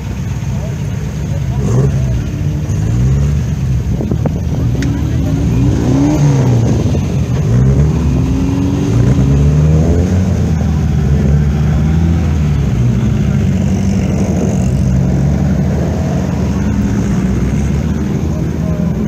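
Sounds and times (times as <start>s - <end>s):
car engines pulling away: 0.0s - 19.0s.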